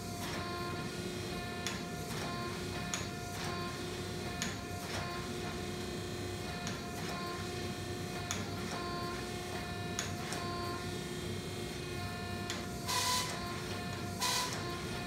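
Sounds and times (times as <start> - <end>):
hydraulic press whining hum: 0.0 - 15.0.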